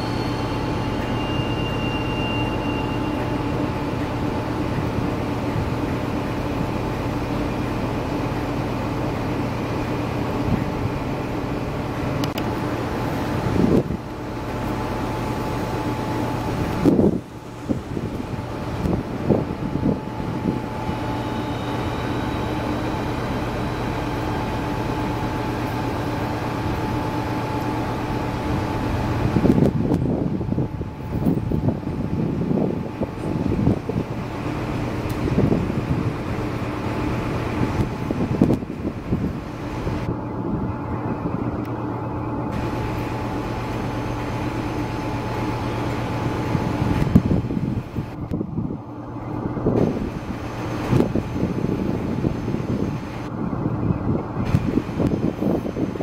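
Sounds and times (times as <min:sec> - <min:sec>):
gusty rumble: 0:00.0 - 0:56.0
train fans humming: 0:00.0 - 0:56.0.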